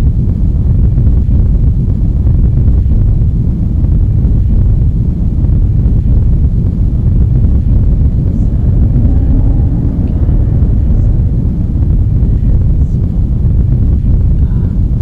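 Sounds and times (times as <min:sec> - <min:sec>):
loud low rumble: 0:00.8 - 0:15.0.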